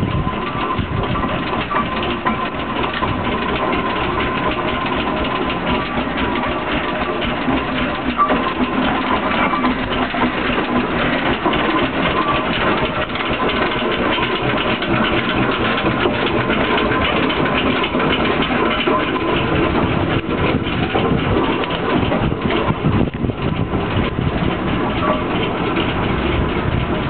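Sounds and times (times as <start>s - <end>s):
steam engine rumbling: 0.0s - 27.0s.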